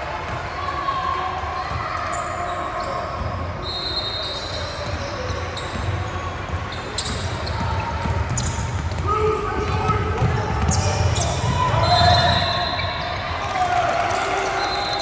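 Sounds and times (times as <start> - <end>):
basketball bouncing on court: 0.2 - 3.6, 4.5 - 13.6
sneakers squeaking: 0.2 - 15.0.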